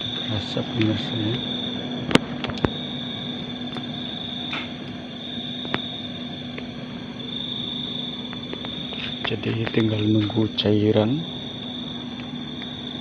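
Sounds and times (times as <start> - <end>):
high whine: 0.0 - 13.0
refrigerator hum: 0.0 - 13.0.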